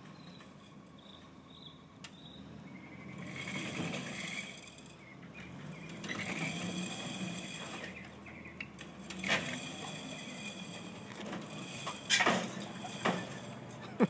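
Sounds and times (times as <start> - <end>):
steel tracks squealing and clattering: 0.0 - 1.7, 3.0 - 14.0
engine running low: 0.0 - 14.0.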